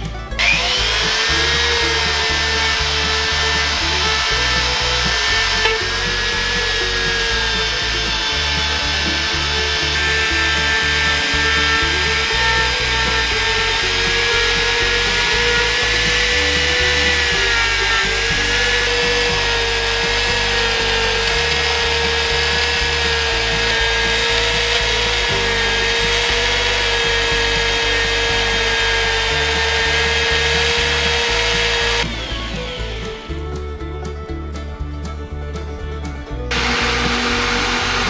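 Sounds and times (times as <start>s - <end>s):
rotary tool grinding metal: 0.0s - 34.4s, 36.1s - 38.0s
background music with beat: 0.0s - 38.0s.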